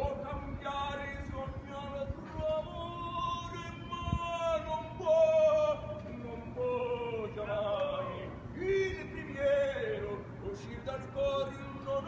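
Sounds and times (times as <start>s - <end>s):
opera singer singing: 0.0s - 12.0s.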